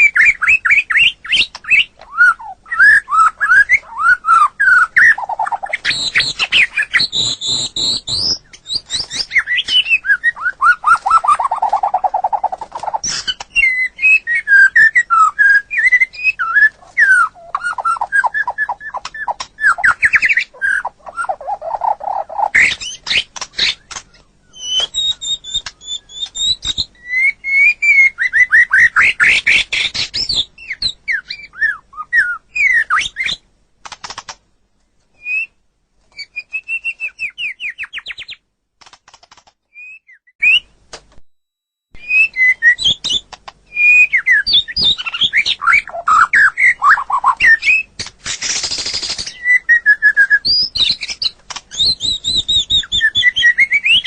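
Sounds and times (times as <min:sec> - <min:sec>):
bird singing whistles and trills: 0:00.0 - 0:33.4, 0:35.2 - 0:38.4, 0:39.7 - 0:40.8, 0:42.0 - 0:54.0.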